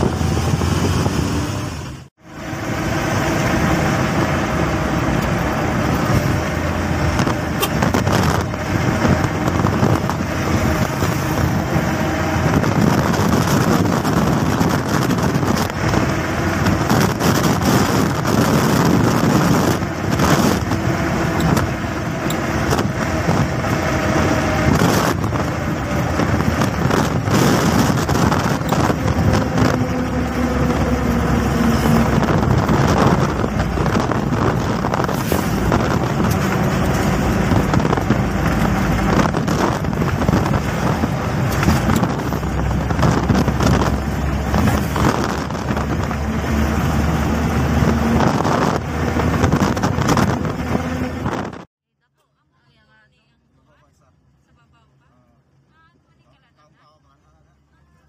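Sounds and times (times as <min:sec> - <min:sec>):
wind buffeting microphone: 0:00.0 - 0:02.0, 0:02.6 - 0:51.7
car driving on highway: 0:00.0 - 0:58.0.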